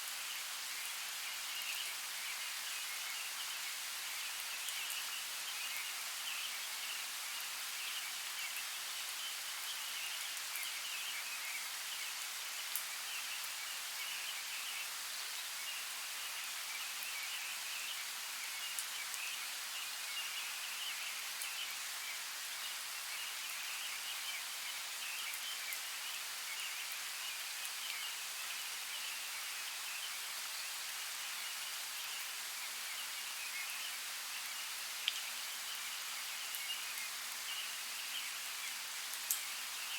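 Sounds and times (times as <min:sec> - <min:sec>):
even outdoor hiss: 0:00.0 - 0:39.9.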